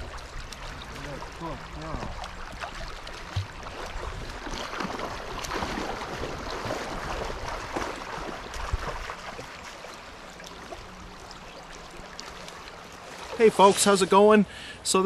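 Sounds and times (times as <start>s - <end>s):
water splashing: 0.0s - 14.8s.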